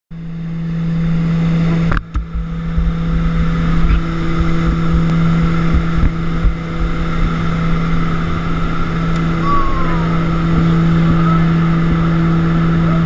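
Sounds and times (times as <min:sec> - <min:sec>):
turboprop engines droning: 0:00.1 - 0:13.0
wind rumbling on microphone: 0:01.5 - 0:13.0.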